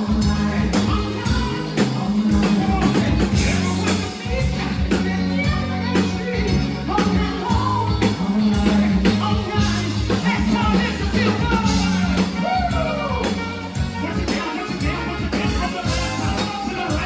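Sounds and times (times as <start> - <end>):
bass: 0.0 - 17.0
drum kit beat: 0.0 - 17.0
live rock band playing: 0.0 - 17.0.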